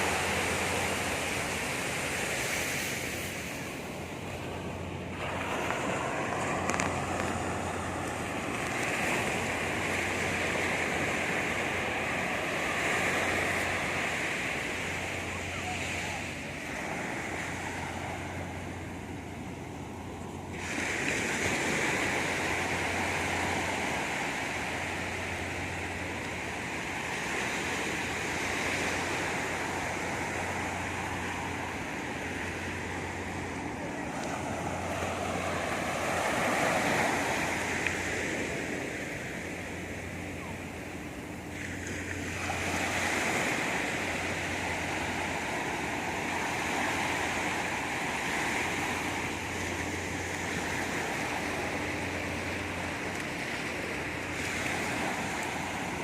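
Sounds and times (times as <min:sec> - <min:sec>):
sea surf on beach: 0:00.0 - 0:56.0.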